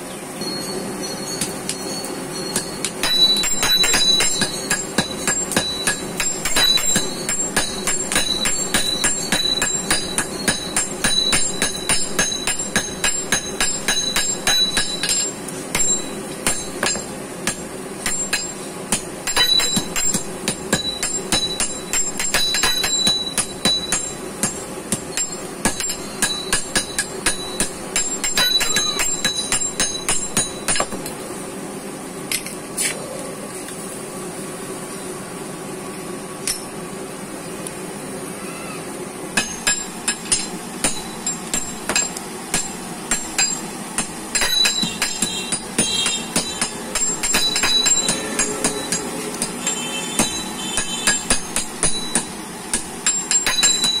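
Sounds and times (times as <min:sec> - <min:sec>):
hammer ringing on anvil: 0:00.4 - 0:31.1, 0:39.4 - 0:54.0.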